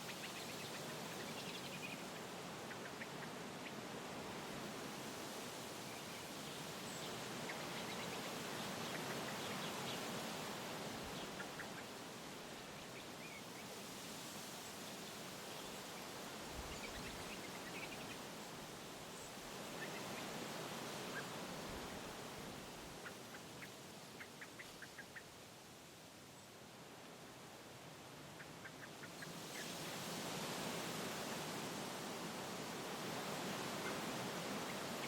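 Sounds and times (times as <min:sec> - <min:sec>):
wind blowing through trees: 0:00.0 - 0:35.0.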